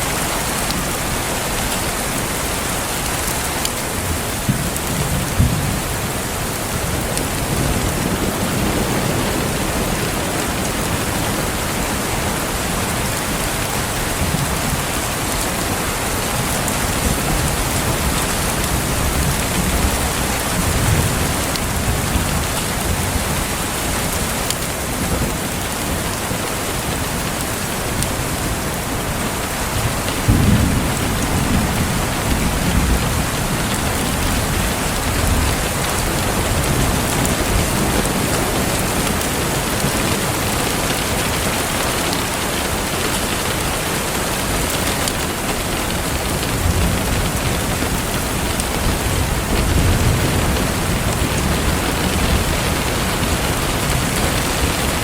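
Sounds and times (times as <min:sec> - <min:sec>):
steady rain falling: 0:00.0 - 0:55.0
thunder rumbling: 0:03.3 - 0:55.0.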